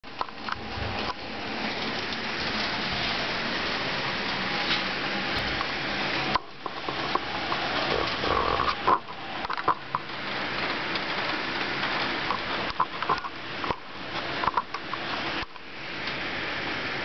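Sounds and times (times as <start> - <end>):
heavy rain on window: 0.0 - 17.0.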